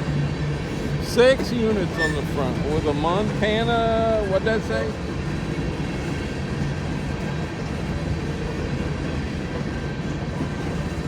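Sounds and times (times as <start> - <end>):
freight train wheels on track: 0.0 - 11.0.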